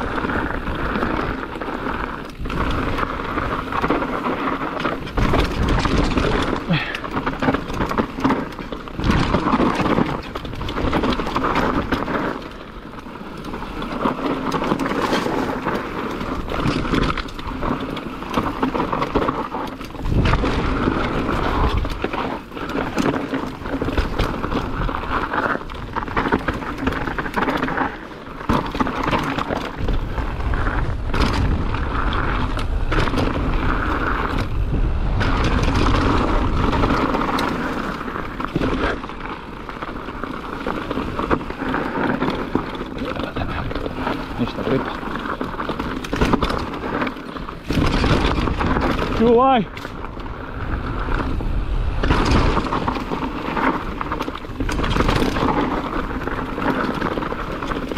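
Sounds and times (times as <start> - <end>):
bike rattling over bumps: 0.0 - 57.9
bike tyres rolling over dirt: 0.0 - 57.9
wind noise rumble: 0.0 - 57.9.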